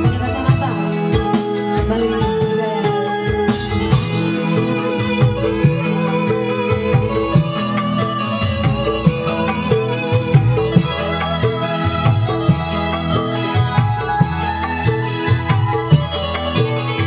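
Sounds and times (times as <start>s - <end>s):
electronic keyboard organ chords: 0.0s - 17.0s
woman singing into a microphone: 0.0s - 17.0s.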